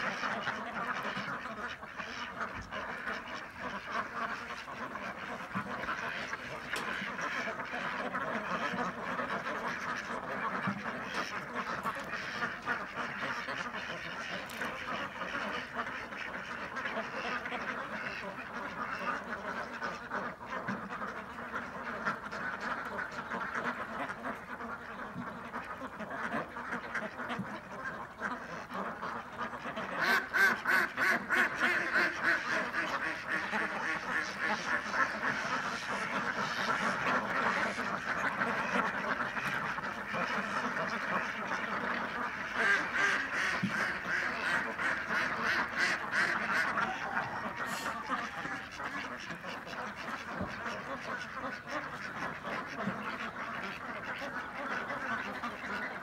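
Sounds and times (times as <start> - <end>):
flock of ducks quacking: 0.0 - 56.0.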